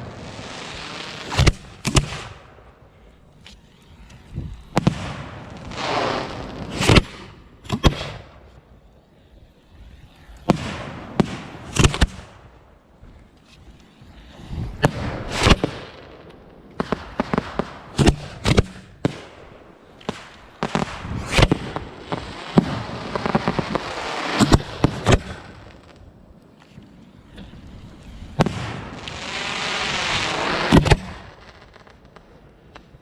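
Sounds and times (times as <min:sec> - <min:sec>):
fireworks bangs and pops: 0:00.0 - 0:02.8, 0:03.6 - 0:08.7, 0:10.4 - 0:12.7, 0:14.5 - 0:26.2, 0:28.3 - 0:33.0
fireworks hissing crackle: 0:00.0 - 0:33.0.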